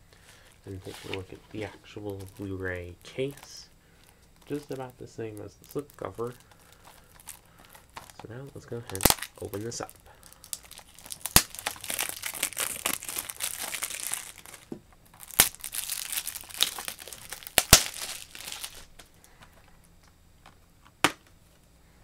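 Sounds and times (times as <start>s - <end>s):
plastic wrap crinkling and tearing: 0.7s - 19.2s.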